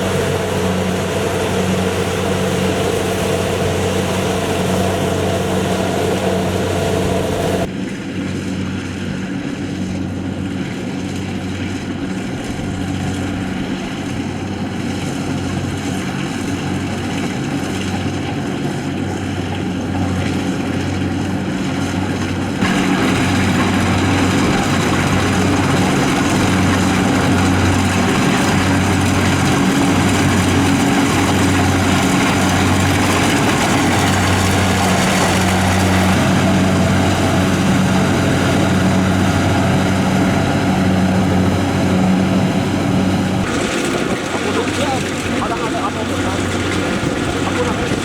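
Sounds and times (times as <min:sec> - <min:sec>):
combine harvester engine: 0:00.0 - 0:48.0.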